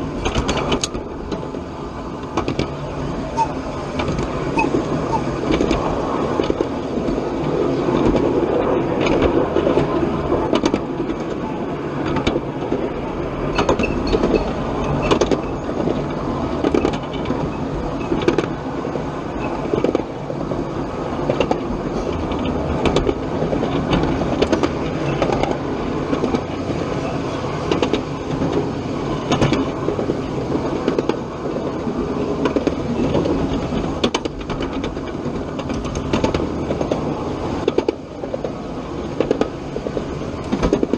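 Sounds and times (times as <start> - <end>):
miniature train rumbling: 0.0 - 40.9
wheels clicking over rails: 0.0 - 40.9.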